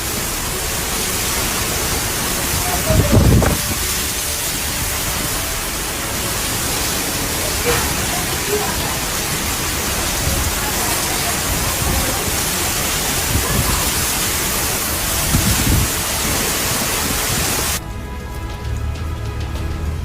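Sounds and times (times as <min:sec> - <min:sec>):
driving rain: 0:00.0 - 0:20.0
steady tones: 0:00.0 - 0:20.0
wind: 0:00.0 - 0:20.0.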